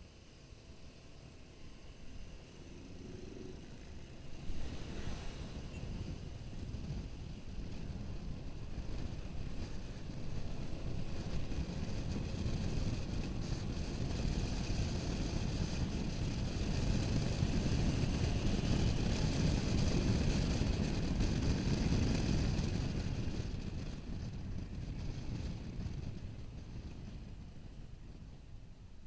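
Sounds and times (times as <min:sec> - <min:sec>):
road noise: 0:00.0 - 0:28.3
motorcycle engine: 0:00.4 - 0:27.4
wind rushing over microphone: 0:02.2 - 0:29.0.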